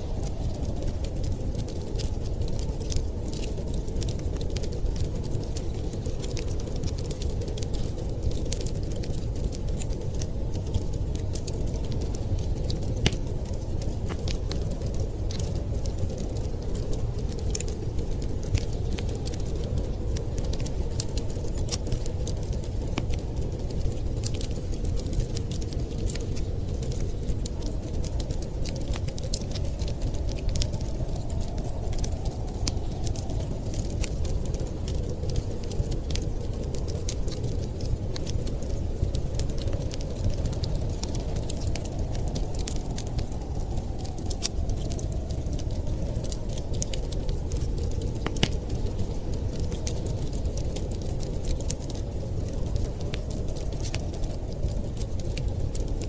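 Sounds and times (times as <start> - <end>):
fire crackling and popping: 0.0 - 56.0
low rumbling noise: 0.0 - 56.0.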